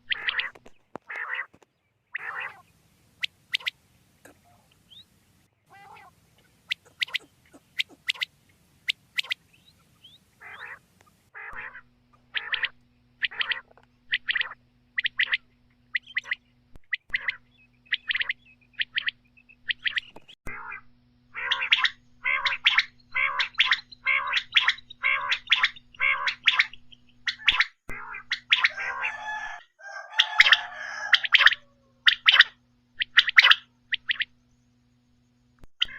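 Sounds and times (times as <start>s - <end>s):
quail calling: 0.0s - 34.4s
faint steady hum: 0.0s - 35.9s.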